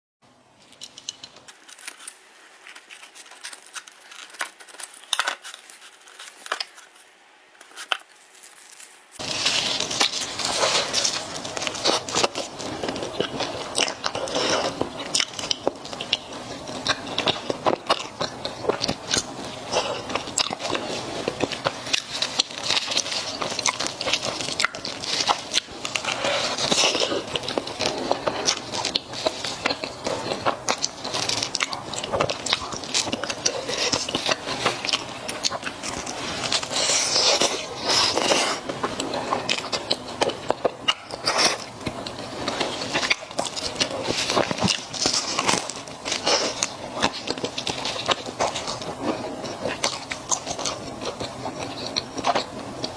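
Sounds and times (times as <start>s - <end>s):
crunchy chewing: 0.6s - 52.9s.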